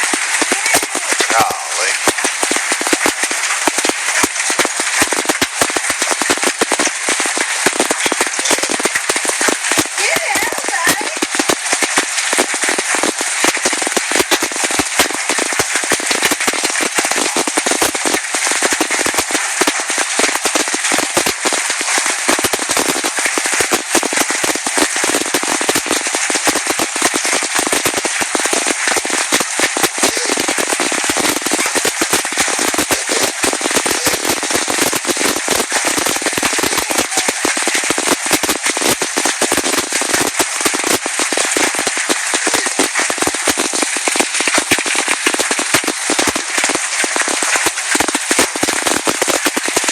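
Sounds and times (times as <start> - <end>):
hailstones pounding down: 0.0 - 49.9.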